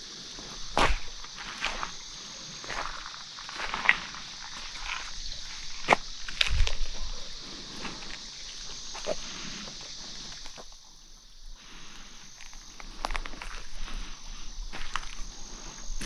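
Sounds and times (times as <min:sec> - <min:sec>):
footsteps crunching on a trail: 0:00.0 - 0:16.0
insects chirring: 0:00.0 - 0:16.0.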